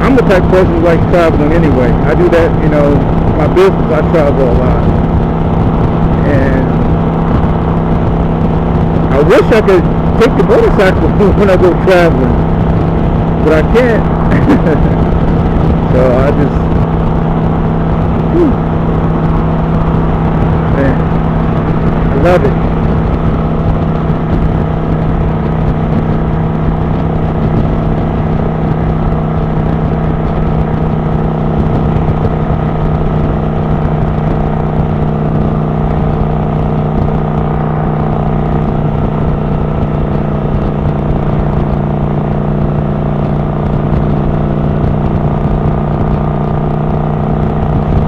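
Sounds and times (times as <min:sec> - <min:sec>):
motorcycle engine running: 0:00.0 - 0:48.0
wind rushing over microphone: 0:00.0 - 0:48.0.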